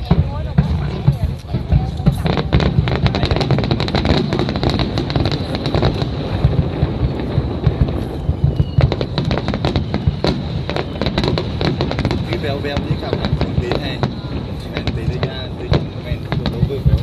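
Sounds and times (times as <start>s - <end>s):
fireworks bursting and crackling: 0.0s - 17.0s
steady low rumble: 0.0s - 17.0s.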